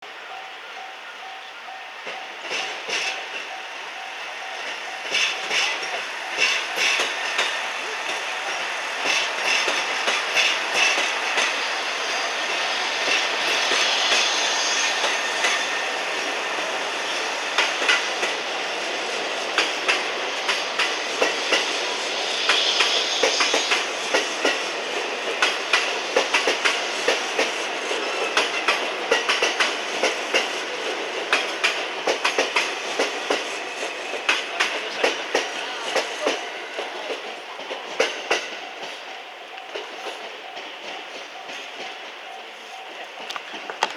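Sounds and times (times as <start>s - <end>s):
trains rolling past: 0.0s - 43.9s
wheels clacking over rail joints: 4.6s - 14.2s, 14.8s - 21.8s, 22.5s - 43.9s.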